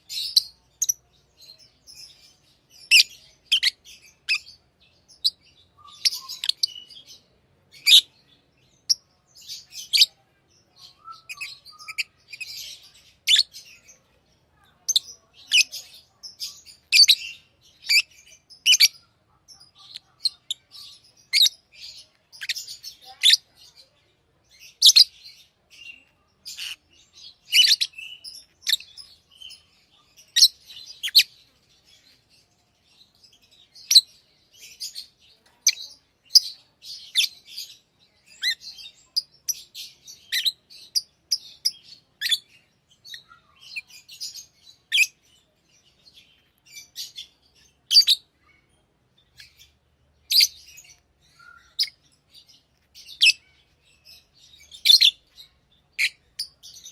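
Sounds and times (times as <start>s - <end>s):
lovebirds chirping: 0.0s - 56.9s.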